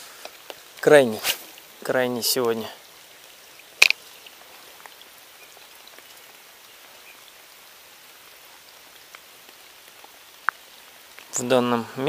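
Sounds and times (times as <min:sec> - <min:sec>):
light rain on water: 0:00.0 - 0:12.0.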